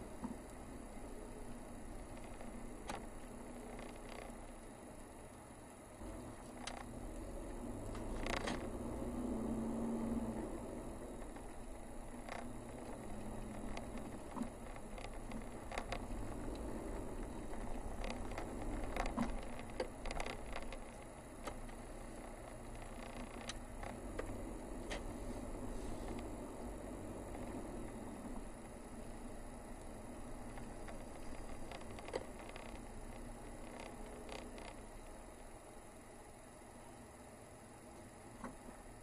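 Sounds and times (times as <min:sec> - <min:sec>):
light clicks and ticks: 0:00.0 - 0:35.6
car engine and tyre rumble: 0:00.0 - 0:39.0.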